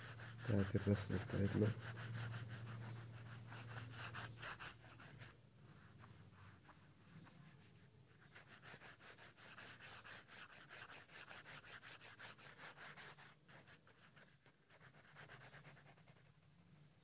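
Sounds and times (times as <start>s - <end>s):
pencil scratching on paper: 0.0s - 16.4s.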